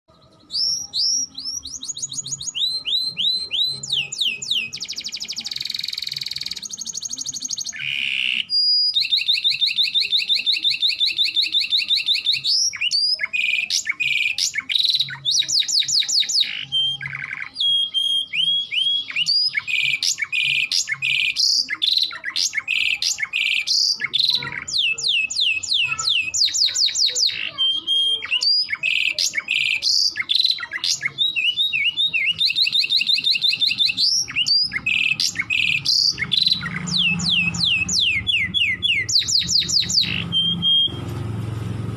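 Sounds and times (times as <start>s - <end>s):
canary singing trills: 0.1s - 41.1s.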